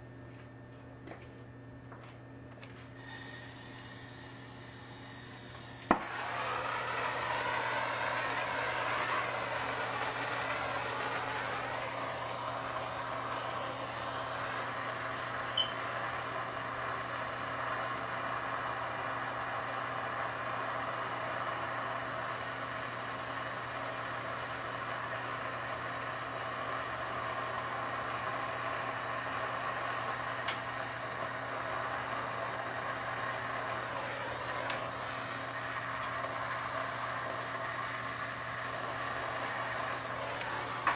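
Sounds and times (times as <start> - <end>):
gas torch flame hissing: 3.0 - 40.9
torch ignition click: 5.4 - 40.9.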